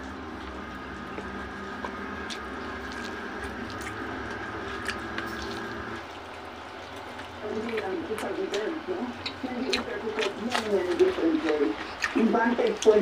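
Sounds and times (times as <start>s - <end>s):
person chewing noodles: 0.0s - 13.0s
steady background hum: 0.0s - 13.0s.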